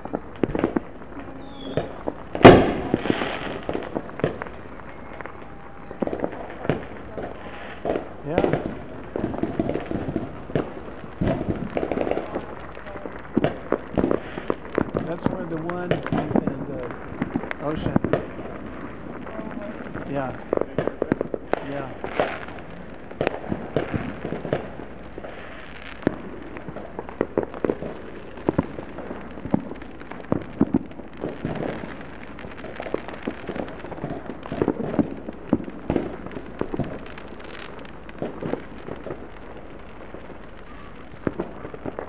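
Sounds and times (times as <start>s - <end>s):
distant fireworks bangs and pops: 0.0s - 42.0s.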